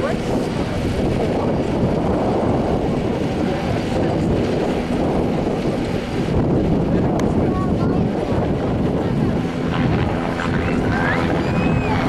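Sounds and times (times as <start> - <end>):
helicopter rotor and turbine: 0.0 - 12.0
wind buffeting microphone: 0.0 - 12.0.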